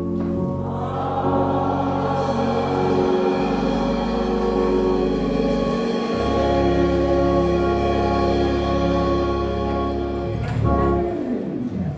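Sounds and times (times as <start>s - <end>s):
church music held chords: 0.0s - 11.9s.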